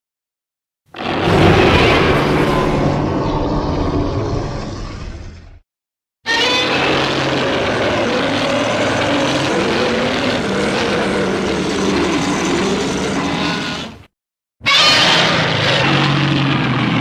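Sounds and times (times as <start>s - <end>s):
monster roar: 0.9s - 5.6s, 6.3s - 14.0s, 14.7s - 17.0s.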